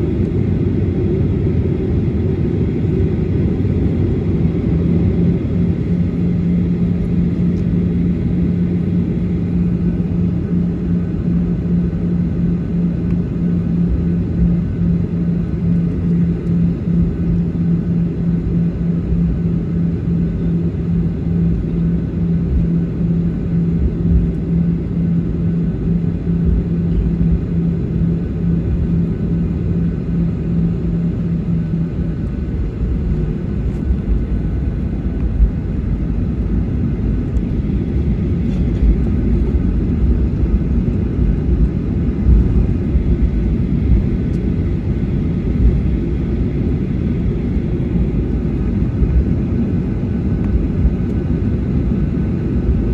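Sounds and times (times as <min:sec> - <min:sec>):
jet engines idling: 0:00.0 - 0:52.9
steady low hum: 0:00.0 - 0:52.9.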